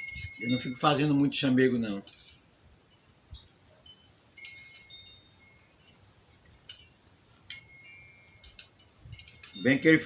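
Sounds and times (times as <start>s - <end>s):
metallic chimes ringing: 0.0s - 10.0s.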